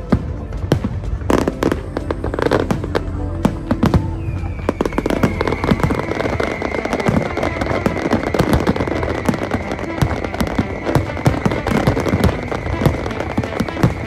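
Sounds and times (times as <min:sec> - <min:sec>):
fireworks booming: 0:00.0 - 0:14.0
fireworks crackling: 0:00.0 - 0:14.0.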